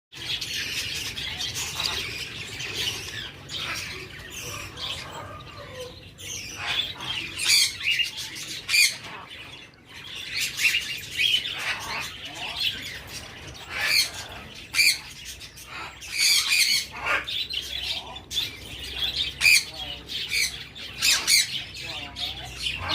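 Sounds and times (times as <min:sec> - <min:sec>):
budgerigar chicks squawking: 0:00.2 - 0:22.9.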